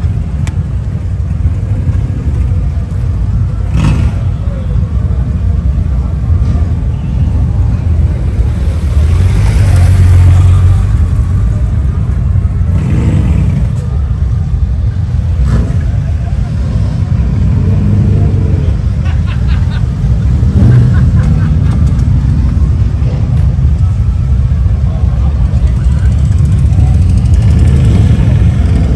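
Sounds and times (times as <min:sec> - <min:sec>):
motorcycle engines rumbling: 0:00.0 - 0:28.9.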